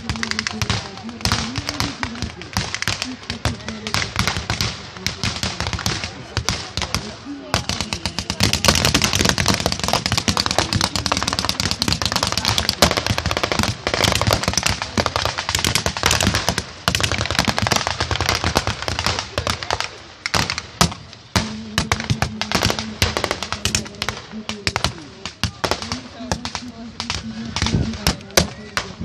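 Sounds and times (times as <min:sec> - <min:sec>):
rapid small-arms gunfire: 0:00.0 - 0:29.0.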